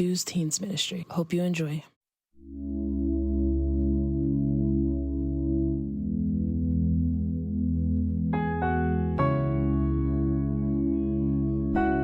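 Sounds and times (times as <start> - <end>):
ambient synthesizer pad: 2.4 - 12.0.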